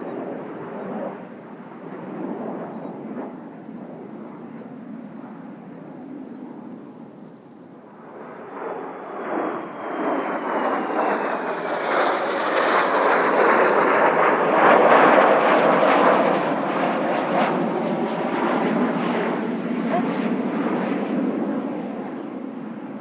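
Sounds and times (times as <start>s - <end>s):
jet aircraft flying past: 0.0s - 23.0s.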